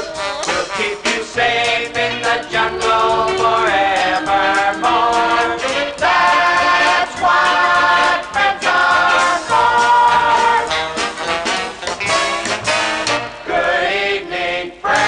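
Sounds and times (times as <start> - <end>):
voices singing in close harmony: 0.0 - 11.0, 13.4 - 15.0.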